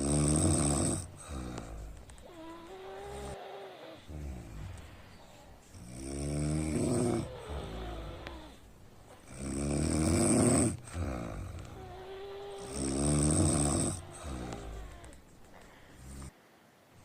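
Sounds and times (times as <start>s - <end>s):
person snoring: 0.0s - 16.4s
quiet breathing: 0.0s - 17.0s.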